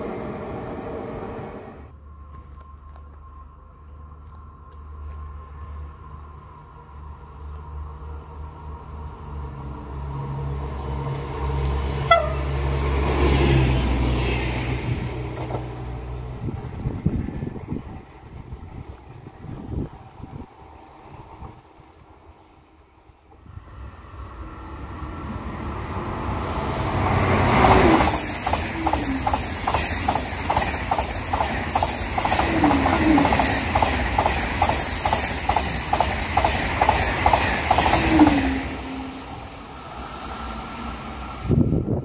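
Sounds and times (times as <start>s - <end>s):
high-speed train rolling noise: 0.0s - 42.0s.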